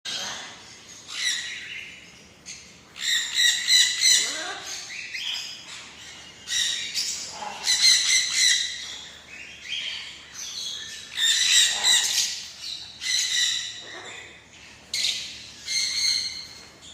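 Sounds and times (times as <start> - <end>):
parrot squawking: 3.0 - 16.5.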